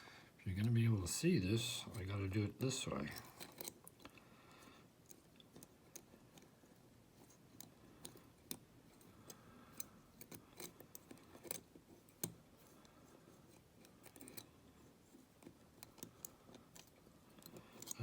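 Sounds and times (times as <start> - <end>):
lock picks clicking and scraping: 1.8 - 18.0.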